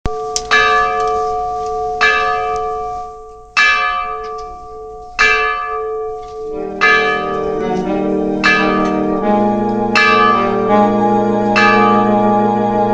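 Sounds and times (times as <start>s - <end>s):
church bell tolling: 0.1s - 12.9s
lower-pitched bell tone: 0.1s - 12.9s.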